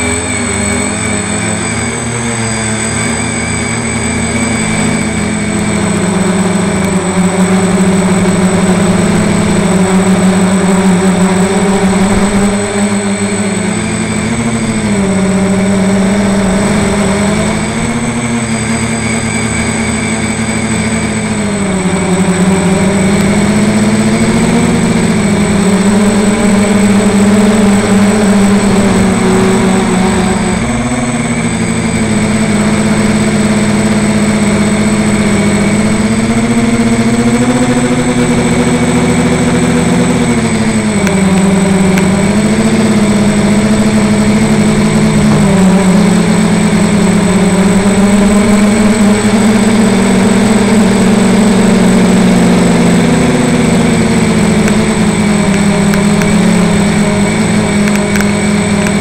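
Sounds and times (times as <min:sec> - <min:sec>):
drone motors and propellers buzzing: 0:00.0 - 0:59.0
thin high whine: 0:00.0 - 0:59.0.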